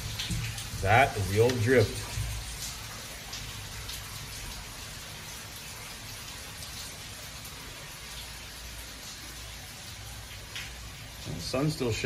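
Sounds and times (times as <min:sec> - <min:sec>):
water dripping and trickling: 0:00.0 - 0:12.0.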